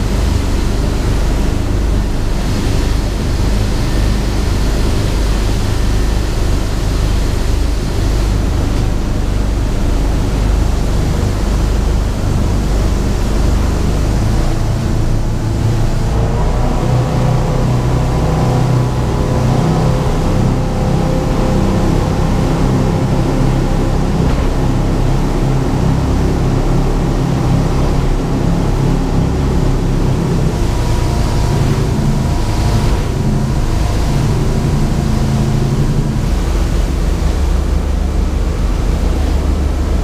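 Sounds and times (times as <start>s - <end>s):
boat engine drone: 0.0s - 40.0s
water rushing along hull: 0.0s - 40.0s.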